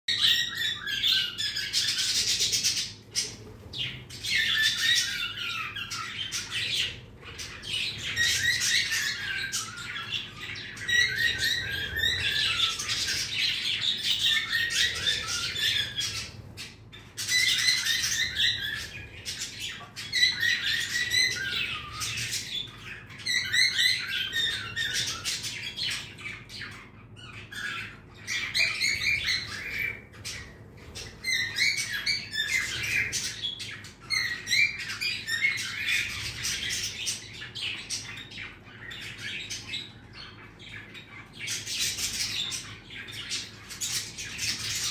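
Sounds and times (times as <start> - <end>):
budgerigars chirping and warbling: 0.1 - 44.9.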